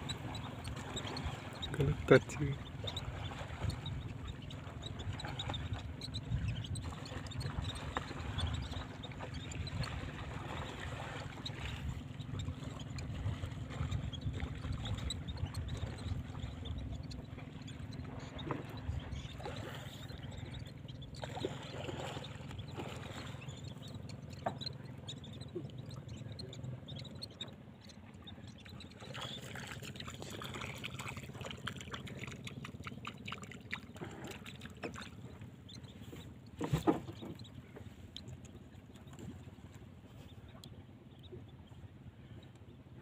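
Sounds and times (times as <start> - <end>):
low hum: 0.0 - 42.6
water lapping against boat hull: 0.0 - 43.0
small splashes and clicks: 0.1 - 39.9.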